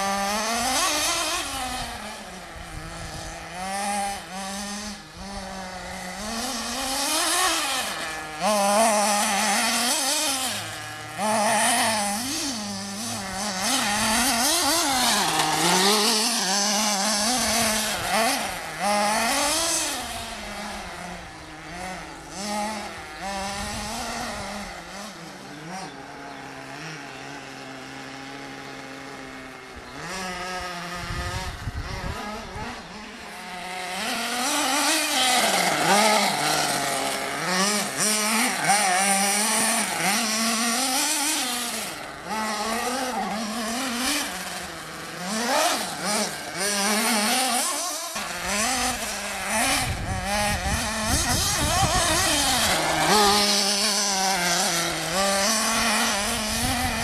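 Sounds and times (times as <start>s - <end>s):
small nitro engine revving: 0.0s - 57.0s.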